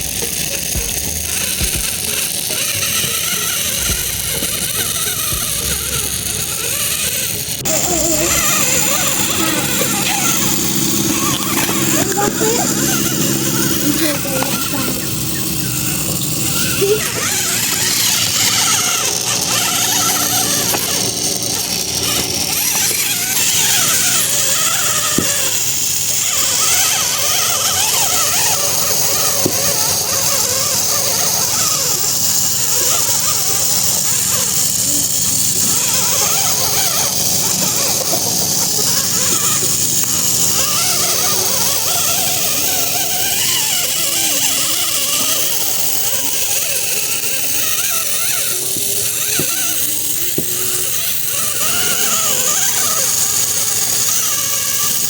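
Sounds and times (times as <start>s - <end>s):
toy electric motor whine: 0.0s - 55.0s
wavering squeals: 0.0s - 55.0s.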